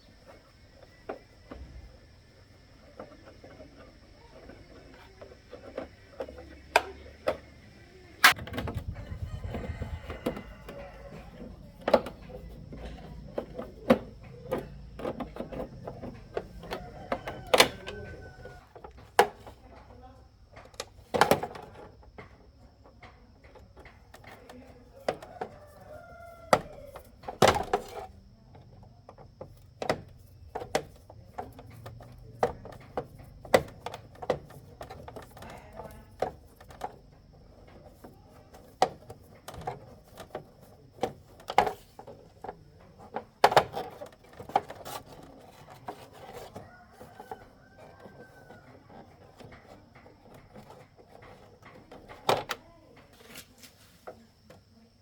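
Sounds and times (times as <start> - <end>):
hand tools clicking and knocking: 0.0 - 54.8
faint voices: 0.0 - 55.0.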